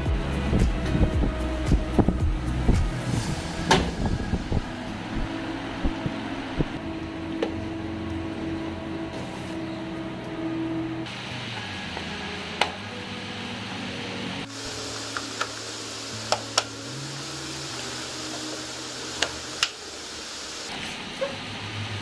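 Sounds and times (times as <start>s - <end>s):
fan-like hiss: 0.0s - 6.8s, 11.0s - 22.0s.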